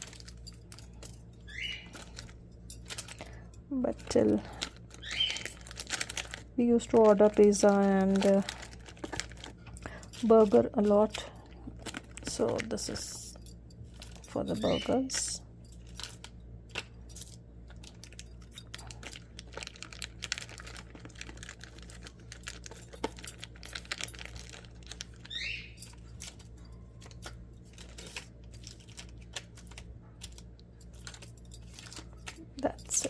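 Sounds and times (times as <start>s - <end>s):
plastic packets crinkling: 0.0s - 33.0s.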